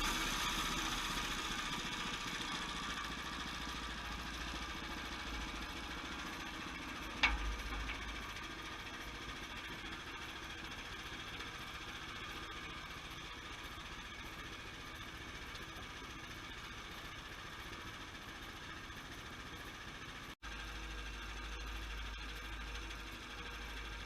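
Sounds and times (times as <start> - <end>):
sawmill machinery droning: 0.0 - 24.0.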